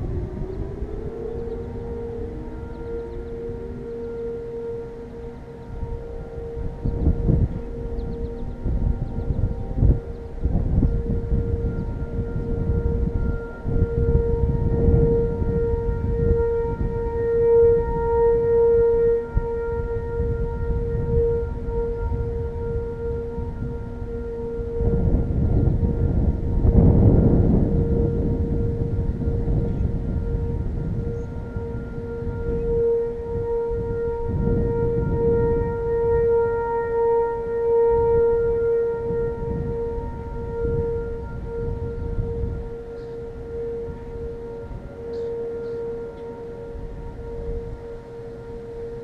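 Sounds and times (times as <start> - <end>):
electronic sirens alert tone: 0.0 - 49.0
wind buffeting microphone: 0.0 - 49.0.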